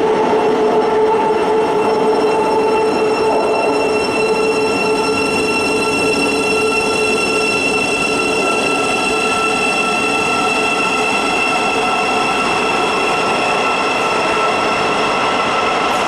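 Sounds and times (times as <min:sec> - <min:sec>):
high whine: 0:00.0 - 0:16.0
train running: 0:00.0 - 0:16.0.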